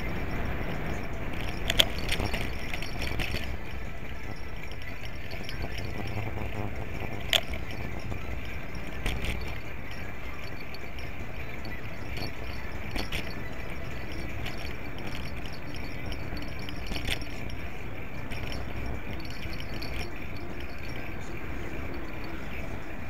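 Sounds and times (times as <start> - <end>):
bicycle rolling on pavement: 0.0 - 23.0
bike clinks and rattles: 0.0 - 23.0.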